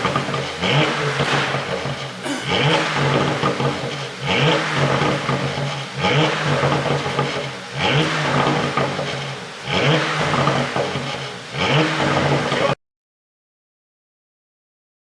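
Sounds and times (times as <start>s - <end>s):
car engine revving: 0.0s - 12.8s
exhaust crackling and popping: 0.0s - 12.8s.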